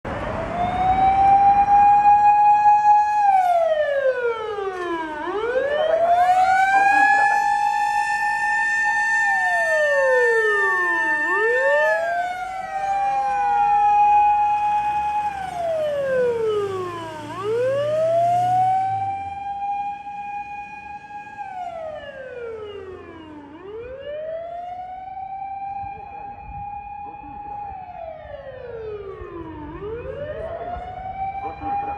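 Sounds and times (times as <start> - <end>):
second falling siren: 0.1 - 31.9
mechanical motor siren wailing: 0.3 - 31.9.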